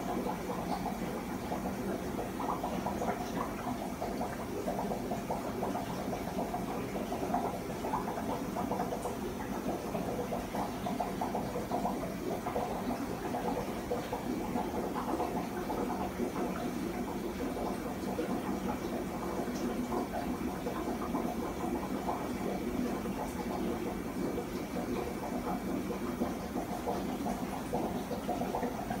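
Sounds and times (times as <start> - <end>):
aquarium airstones bubbling: 0.0 - 29.0.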